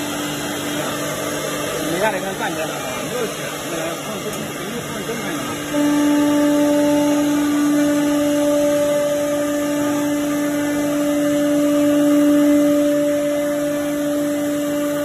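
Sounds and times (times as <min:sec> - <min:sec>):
router spindle cutting wood: 0:00.0 - 0:15.0.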